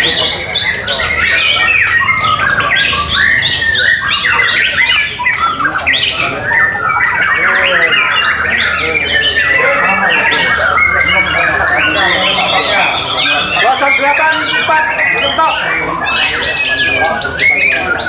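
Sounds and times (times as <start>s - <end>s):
chorus of birds singing: 0.0s - 18.0s.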